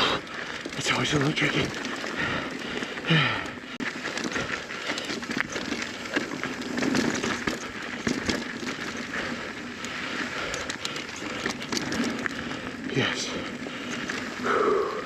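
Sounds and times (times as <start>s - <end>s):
bike clicks and rattles: 0.0s - 15.0s
tyres rolling on dirt and gravel: 0.0s - 15.0s.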